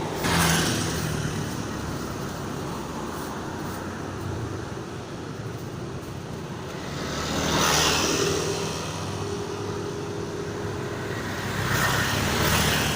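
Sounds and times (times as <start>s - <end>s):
vehicle passing close by: 0.0s - 4.8s, 6.7s - 12.9s
traffic engine rumble: 0.0s - 12.9s.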